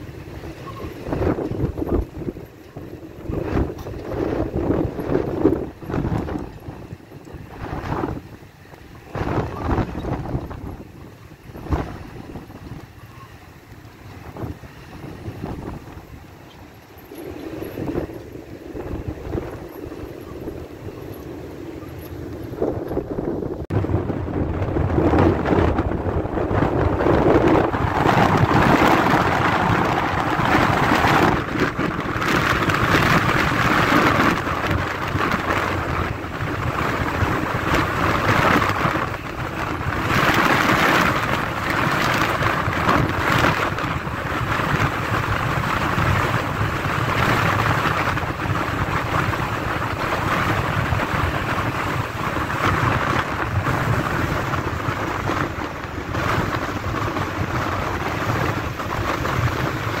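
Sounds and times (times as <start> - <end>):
strong wind buffeting microphone: 0.0 - 60.0.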